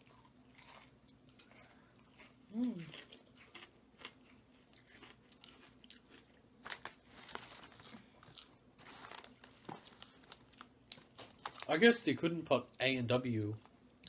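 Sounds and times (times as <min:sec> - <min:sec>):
potato chips crunching: 0:00.0 - 0:12.1.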